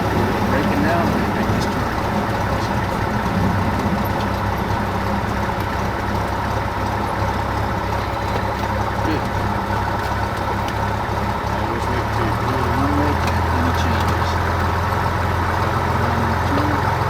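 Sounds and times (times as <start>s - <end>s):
airplane engine and propeller: 0.0s - 17.0s.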